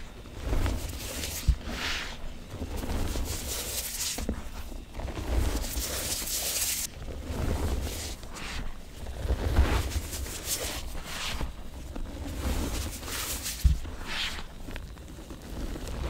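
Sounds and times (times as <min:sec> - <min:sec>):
powder crunching and squeaking: 0:00.0 - 0:16.0.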